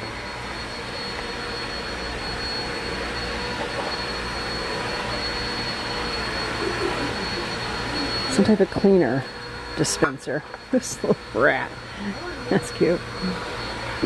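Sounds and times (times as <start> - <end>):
faint high whine: 0.0 - 14.0
whooshing machine noise: 0.0 - 14.0.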